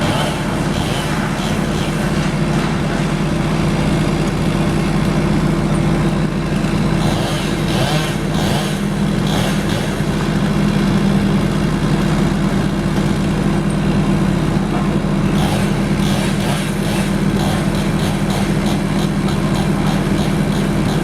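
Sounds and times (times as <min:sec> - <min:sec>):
large engine running steadily: 0:00.0 - 0:21.0.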